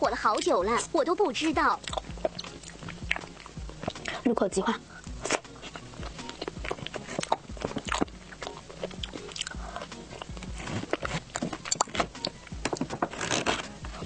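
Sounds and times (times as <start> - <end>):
chewing pastry: 0.1 - 14.0.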